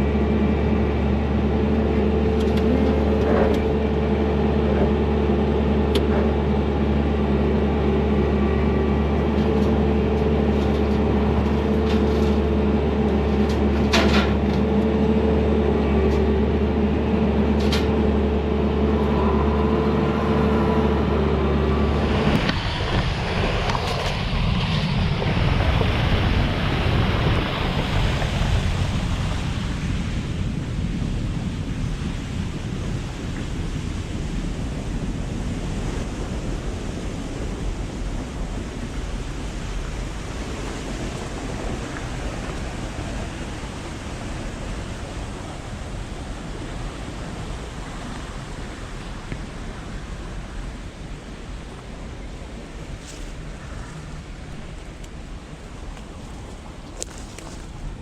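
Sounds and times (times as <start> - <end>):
diesel engine running under load: 0.0 - 57.0
steady rushing noise: 0.0 - 58.0.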